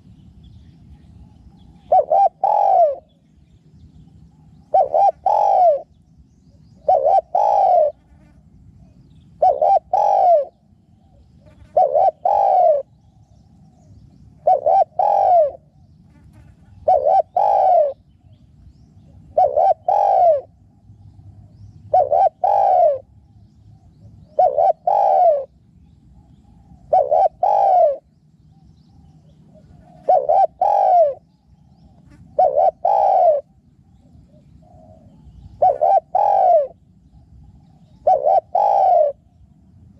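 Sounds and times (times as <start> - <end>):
dove cooing: 1.0 - 3.2, 4.1 - 39.9.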